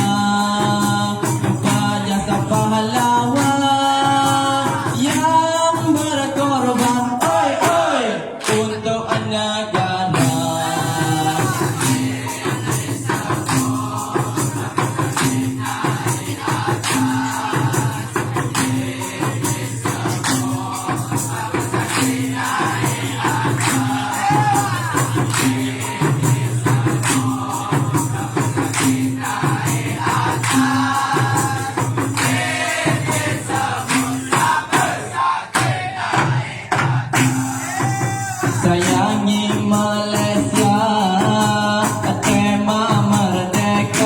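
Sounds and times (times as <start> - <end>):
jingling percussion: 0.0 - 7.8, 10.1 - 44.0
chorus singing: 0.0 - 44.0
hand drums: 0.0 - 44.0.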